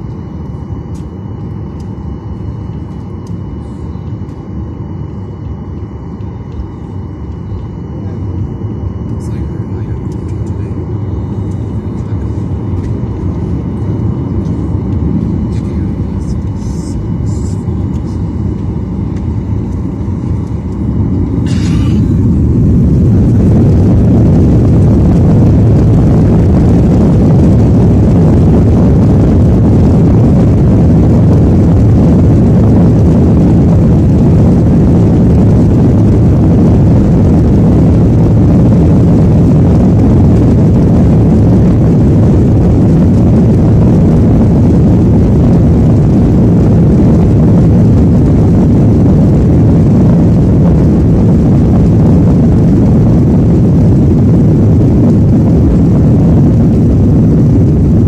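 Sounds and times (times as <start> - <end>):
jet engines roaring in cabin: 0.0 - 58.0.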